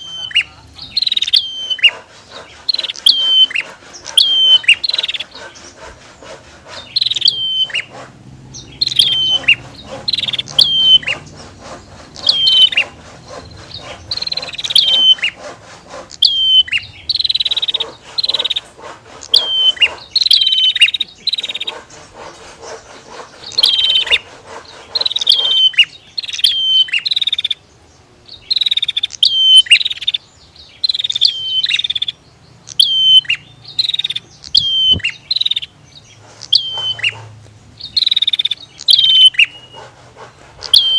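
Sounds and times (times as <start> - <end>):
birds calling back and forth: 0.0 - 40.9.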